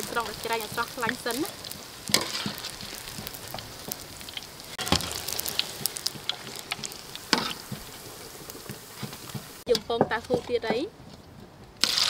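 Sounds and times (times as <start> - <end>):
oil sizzling and crackling in wok: 0.0 - 10.5, 11.8 - 12.0.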